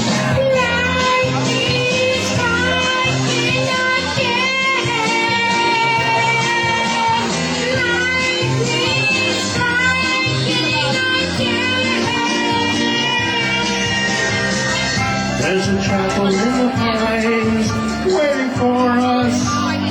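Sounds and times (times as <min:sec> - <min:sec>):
person singing karaoke: 0:00.0 - 0:19.9
recorded backing track: 0:00.0 - 0:19.9.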